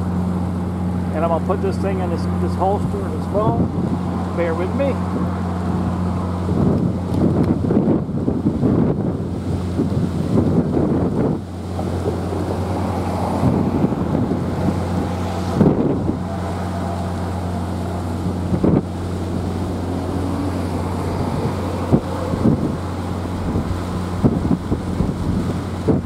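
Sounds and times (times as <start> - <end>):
steady low hum: 0.0 - 26.0
wind buffeting microphone: 0.0 - 26.0.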